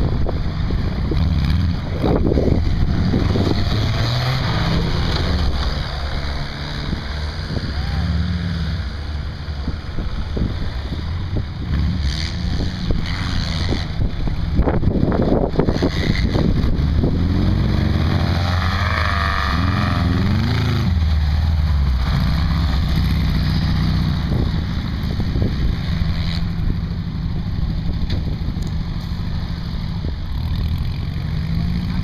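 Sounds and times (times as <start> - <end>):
off-road buggy engine revving: 0.0 - 32.0.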